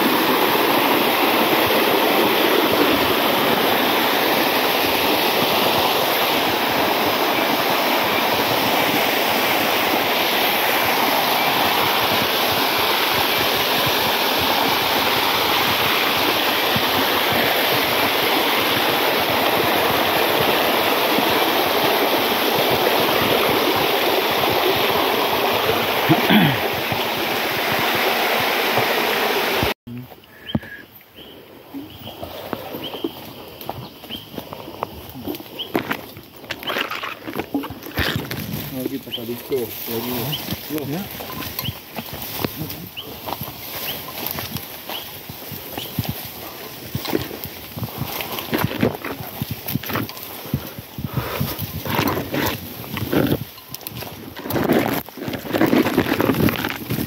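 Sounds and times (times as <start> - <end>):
waterfall pouring over rocks: 0.0 - 29.8, 34.4 - 57.0.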